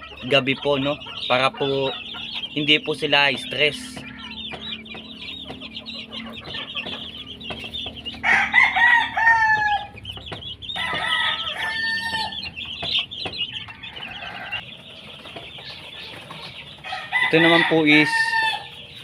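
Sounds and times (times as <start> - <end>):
chicks peeping: 0.0 - 19.0
roosters crowing: 0.0 - 19.0.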